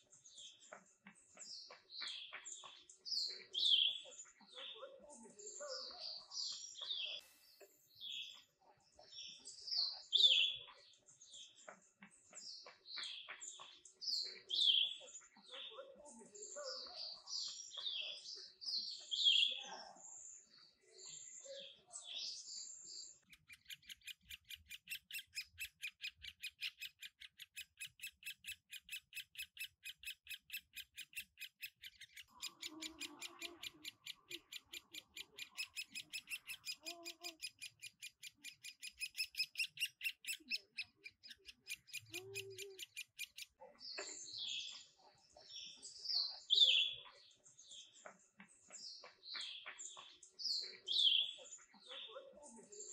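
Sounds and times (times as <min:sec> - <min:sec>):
wild birds chirping: 0:00.0 - 0:52.9.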